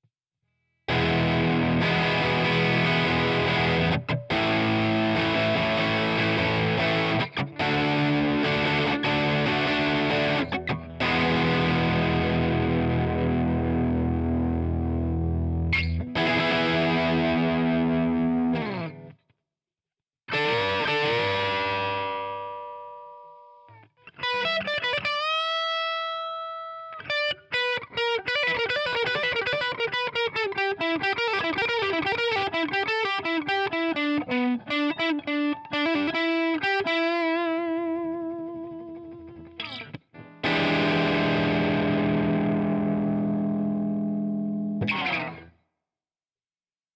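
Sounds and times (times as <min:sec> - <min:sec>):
distorted electric guitar: 0:00.9 - 0:19.2, 0:20.3 - 0:45.6.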